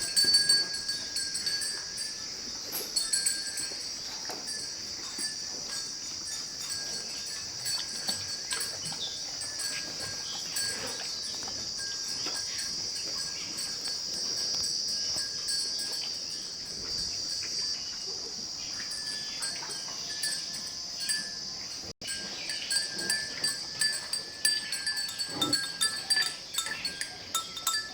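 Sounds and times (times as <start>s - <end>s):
insects droning: 0.0s - 27.9s
light clinks and knocks: 0.0s - 27.9s.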